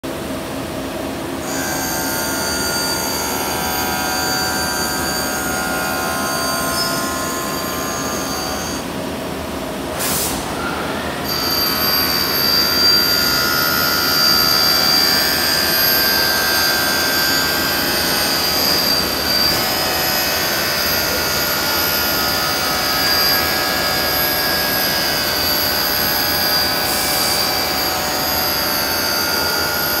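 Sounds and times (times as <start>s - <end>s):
spindle high whine: 0.1s - 30.0s
cutter milling metal: 1.4s - 9.0s, 10.5s - 30.0s.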